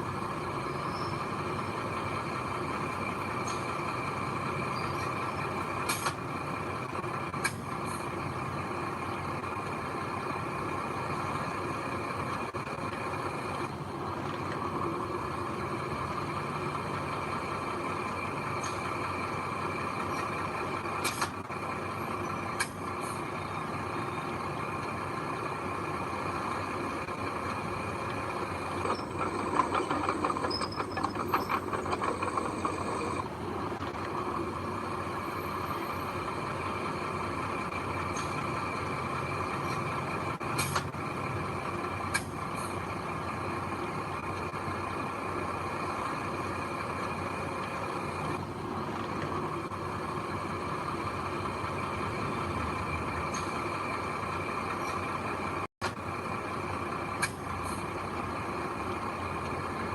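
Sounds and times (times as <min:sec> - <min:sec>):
heavy diesel machinery running: 0:00.0 - 0:59.9
machinery rattling: 0:00.0 - 0:59.9.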